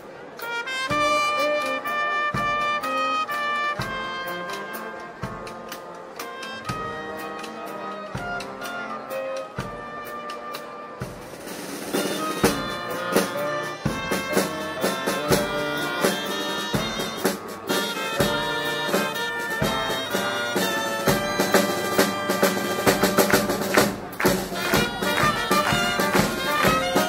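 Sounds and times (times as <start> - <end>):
drums with steady beat: 0.8 - 27.0.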